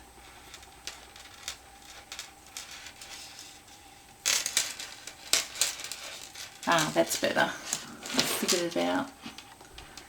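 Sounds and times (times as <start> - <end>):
rustling: 0.0 - 10.0.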